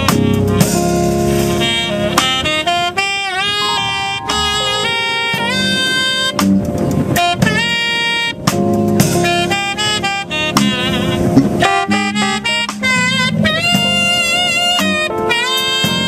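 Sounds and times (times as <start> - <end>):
drum kit: 0.0 - 3.2, 4.2 - 16.0
bass: 0.0 - 16.0
keyboard: 0.0 - 16.0
saxophone melody: 0.0 - 16.0.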